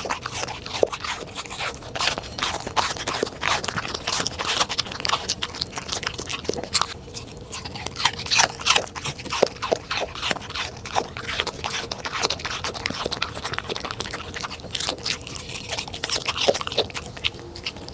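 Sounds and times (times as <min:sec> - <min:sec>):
dog chewing crunchy food: 0:00.0 - 0:17.9.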